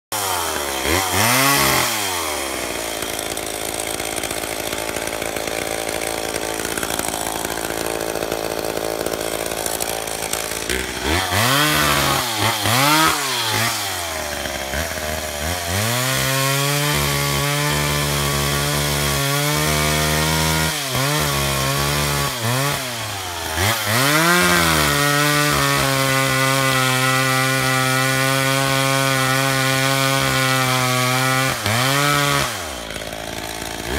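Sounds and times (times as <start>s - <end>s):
chainsaw revving and cutting: 0.0s - 33.9s.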